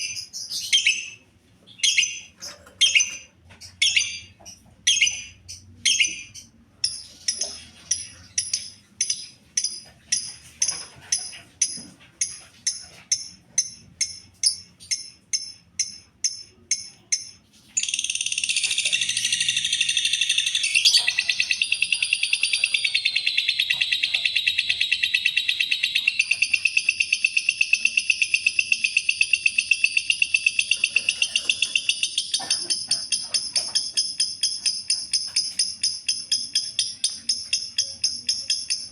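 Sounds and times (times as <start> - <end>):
lovebird chirping and chattering: 0.0 - 38.9.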